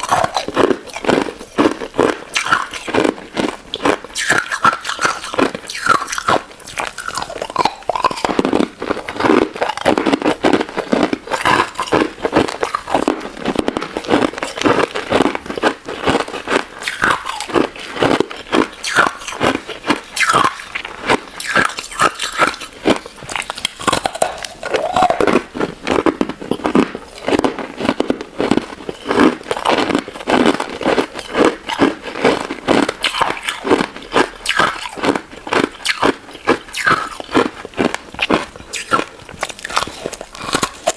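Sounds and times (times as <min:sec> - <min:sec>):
crunchy ice dessert chewing: 0:00.0 - 0:40.9
wet mouth sounds: 0:00.0 - 0:40.9.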